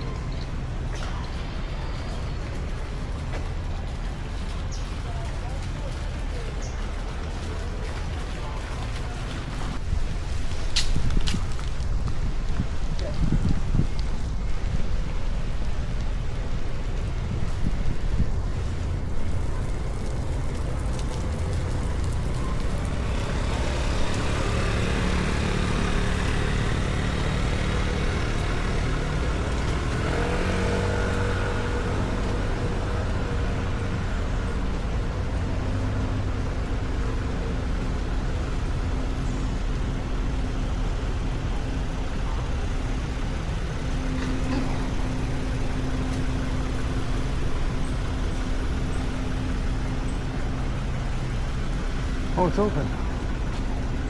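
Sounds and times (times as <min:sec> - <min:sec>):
road and traffic noise: 0:00.0 - 0:54.0
vehicle engine rumble: 0:00.0 - 0:54.0.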